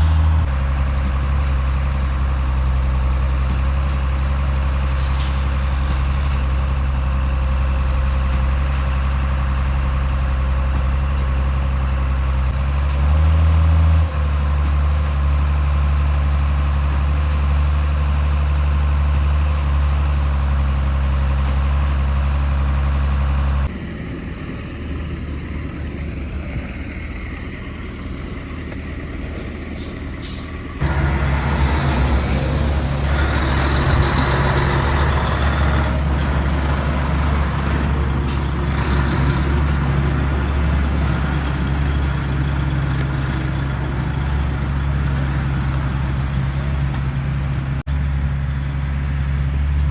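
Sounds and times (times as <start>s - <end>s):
diesel truck engine running: 0.0s - 49.9s.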